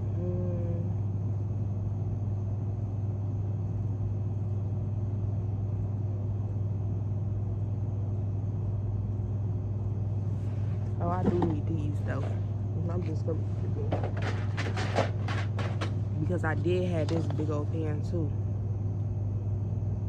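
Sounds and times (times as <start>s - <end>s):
store background hum: 0.0s - 20.0s.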